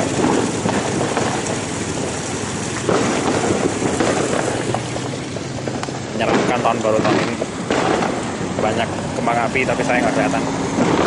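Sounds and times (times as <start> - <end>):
distant fireworks crackling: 0.0 - 11.0.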